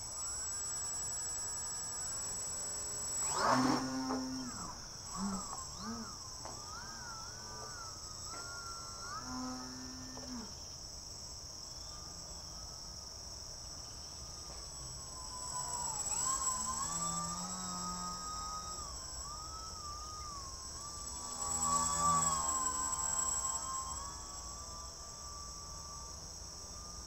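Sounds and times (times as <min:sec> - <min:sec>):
insects chirping: 0:00.0 - 0:27.0
wavering whine: 0:00.0 - 0:27.0.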